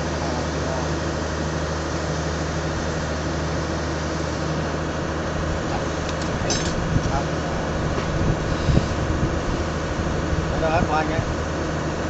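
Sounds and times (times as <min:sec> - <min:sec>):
electric motor and gearbox humming: 0:00.0 - 0:12.0.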